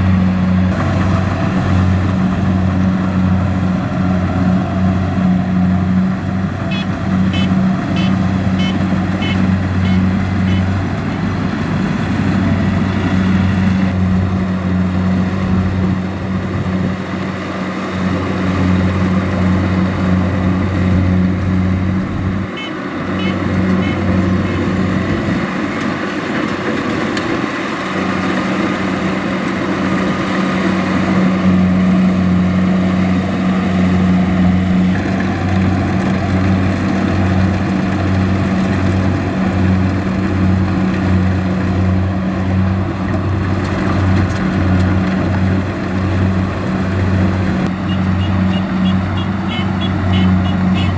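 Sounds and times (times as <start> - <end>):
combine harvester engine drone: 0.0 - 50.9
rattle of threshing machinery: 0.6 - 50.9.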